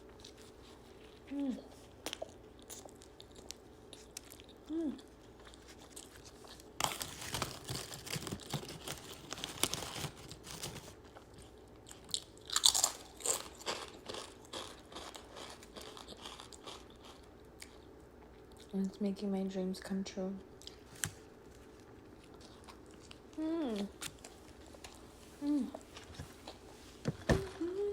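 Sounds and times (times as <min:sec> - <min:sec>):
crunchy chewing: 0:00.0 - 0:18.7, 0:20.6 - 0:25.2.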